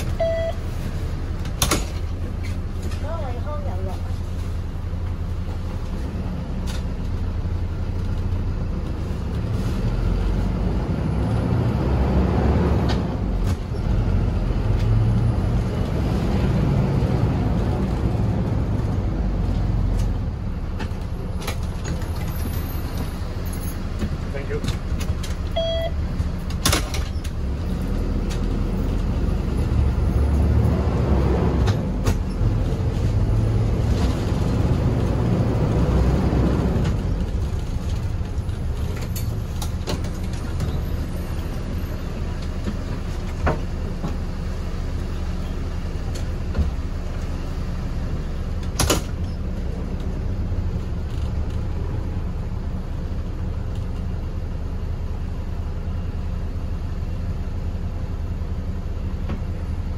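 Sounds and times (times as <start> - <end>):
bus engine and road rumble: 0.0 - 59.9.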